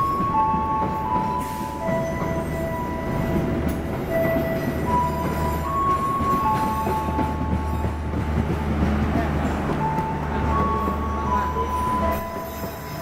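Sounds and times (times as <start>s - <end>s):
train coaches rumbling: 0.0s - 13.0s.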